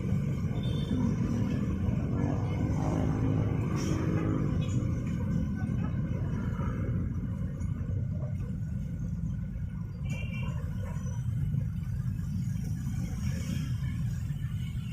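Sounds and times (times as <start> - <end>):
passing train rumble: 0.0 - 14.9.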